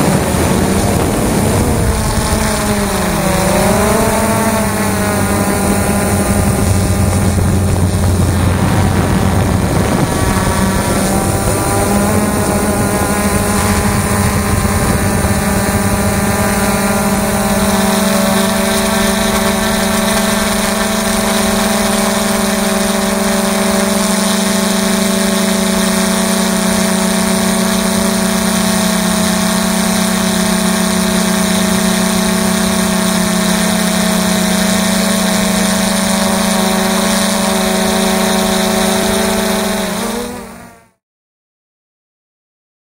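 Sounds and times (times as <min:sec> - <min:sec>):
drone propellers buzzing: 0:00.0 - 0:41.0.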